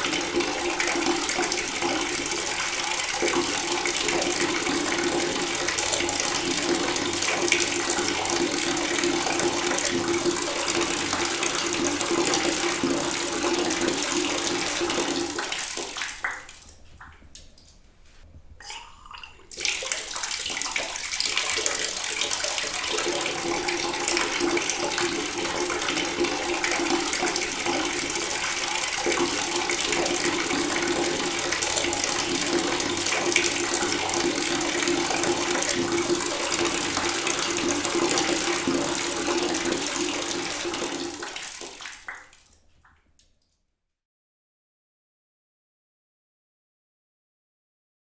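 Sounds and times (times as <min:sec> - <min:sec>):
water running from a tap: 0:00.0 - 0:17.8, 0:19.0 - 0:42.5.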